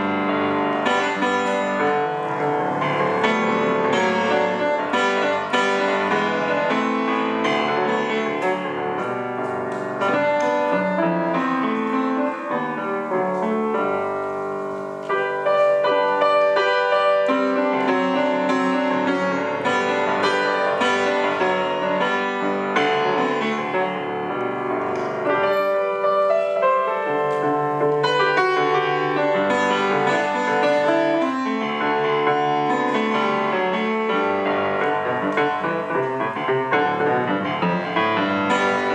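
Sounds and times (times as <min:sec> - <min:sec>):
solo piano folk dance: 0:00.0 - 0:38.9.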